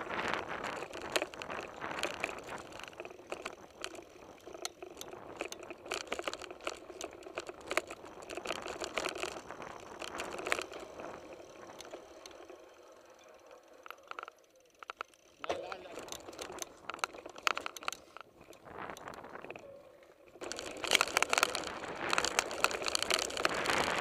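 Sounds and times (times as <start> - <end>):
bike clattering over stones: 0.0 - 24.0.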